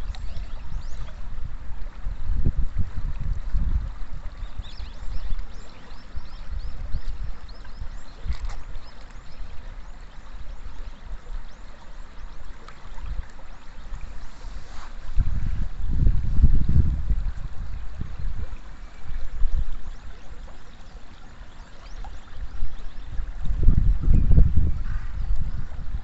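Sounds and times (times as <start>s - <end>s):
river water lapping at bank: 0.0s - 26.0s.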